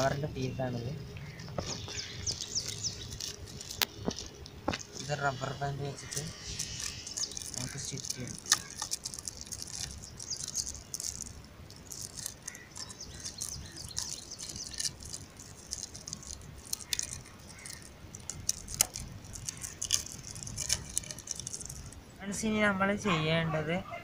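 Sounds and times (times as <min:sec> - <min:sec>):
plastic sheet crinkling: 0:00.0 - 0:22.0.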